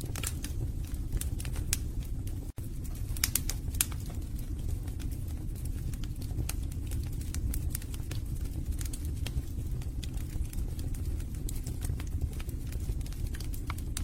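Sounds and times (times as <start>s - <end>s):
fire crackling in fireplace: 0.0s - 14.0s.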